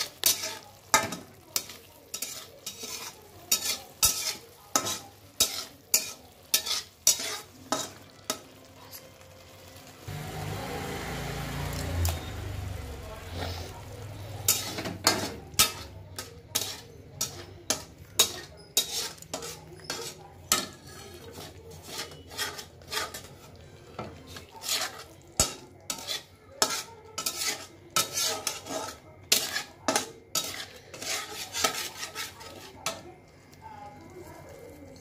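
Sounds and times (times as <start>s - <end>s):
metal spatula scraping steel pan: 0.0s - 9.0s, 13.3s - 33.0s
paste frying: 0.0s - 35.0s.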